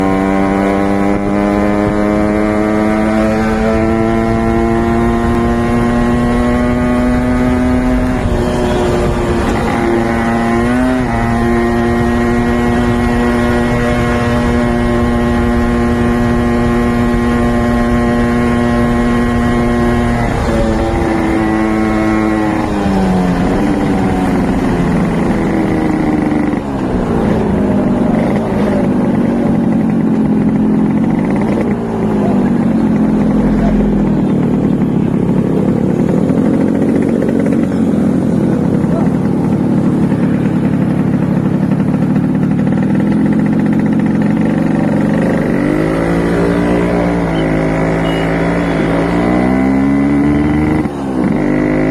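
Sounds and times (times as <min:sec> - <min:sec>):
motorcycle engine revving high: 0:00.0 - 0:51.9.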